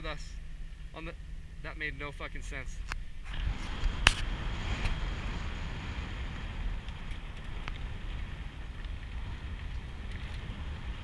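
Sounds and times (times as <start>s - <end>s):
tyres on dirt road: 0.0s - 11.0s
vehicle engine rumble: 0.0s - 11.0s.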